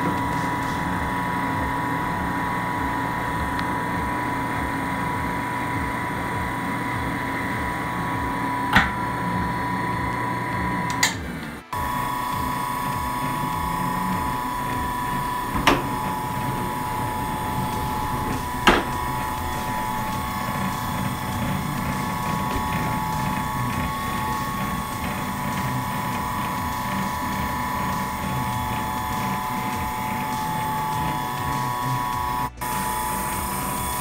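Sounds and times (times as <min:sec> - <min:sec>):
noodle machine motor whine: 0:00.0 - 0:34.0.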